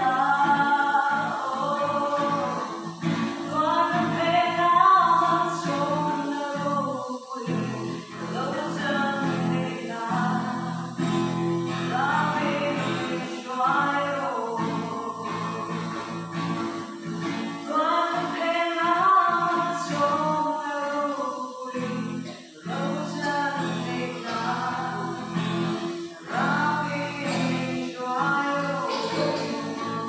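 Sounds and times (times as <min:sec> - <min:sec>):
acoustic guitar: 0:00.0 - 0:30.0
woman singing: 0:00.0 - 0:30.0.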